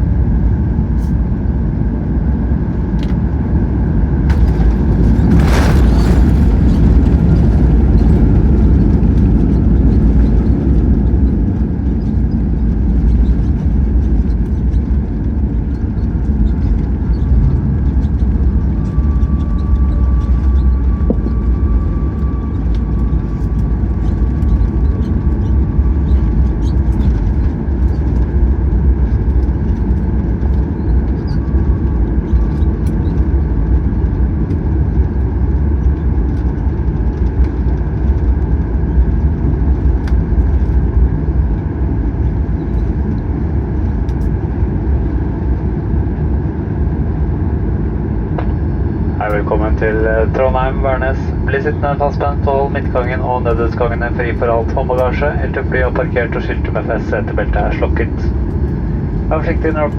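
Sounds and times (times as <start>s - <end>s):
jet engines and wheels rumbling: 0.0s - 59.9s.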